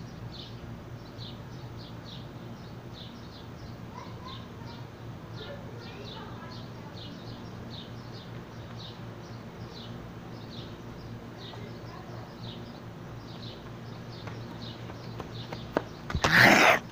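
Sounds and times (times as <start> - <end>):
bird chirping: 0.0 - 16.9
steady low hum: 0.0 - 16.9.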